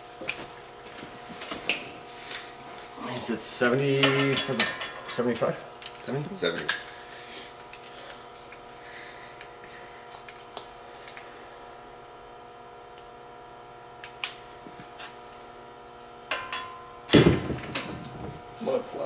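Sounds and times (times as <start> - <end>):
shop hum: 0.0 - 19.0.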